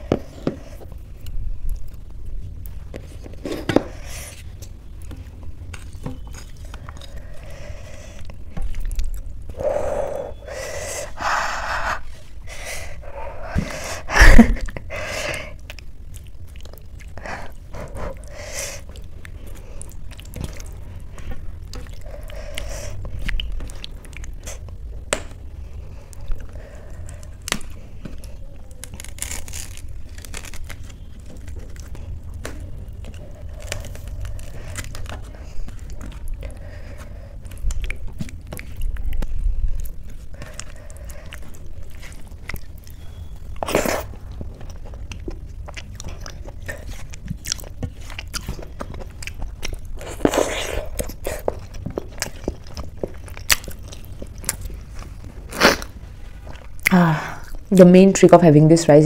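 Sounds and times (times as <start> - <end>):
eating sounds: 0.0 - 58.0.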